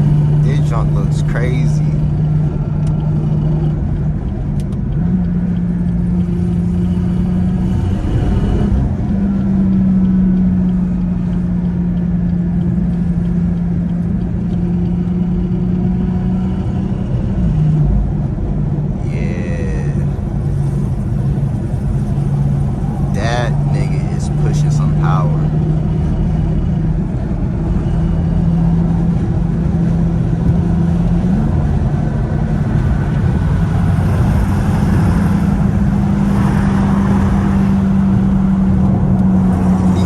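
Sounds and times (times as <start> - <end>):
car engine cruising drone: 0.0 - 40.0
road rumble: 0.0 - 40.0.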